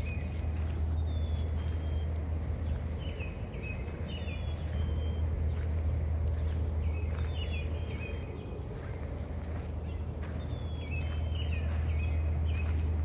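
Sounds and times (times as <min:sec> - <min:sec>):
low rumble: 0:00.0 - 0:13.0
small birds chirping: 0:00.0 - 0:13.0.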